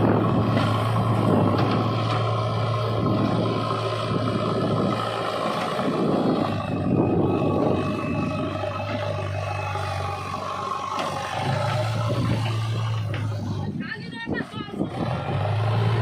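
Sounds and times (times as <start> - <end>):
heavy diesel machinery engine running: 0.0 - 16.0.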